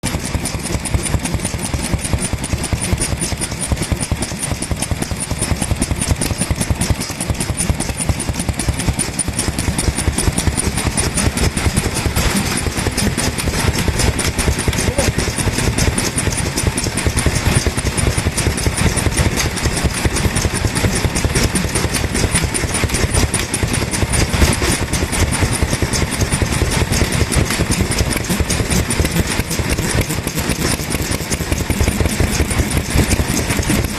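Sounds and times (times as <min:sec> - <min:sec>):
stationary oil engine running: 0:00.0 - 0:33.9.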